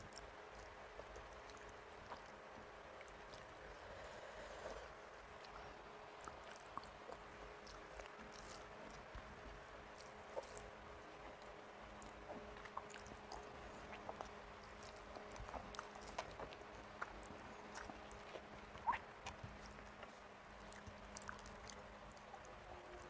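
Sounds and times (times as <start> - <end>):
wet clicks of fingers mixing rice: 0.0 - 3.8, 5.2 - 23.0
faint steady hum: 0.0 - 23.0
person chewing food: 0.0 - 23.0.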